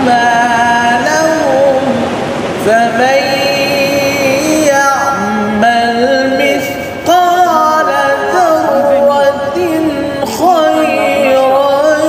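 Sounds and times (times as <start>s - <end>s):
solo voice singing slow melody: 0.0s - 12.0s.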